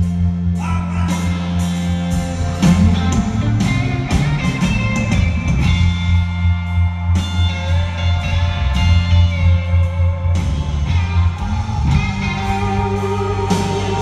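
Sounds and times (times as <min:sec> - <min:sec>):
electric guitar lead: 0:00.0 - 0:14.0
live blues band: 0:00.0 - 0:14.0.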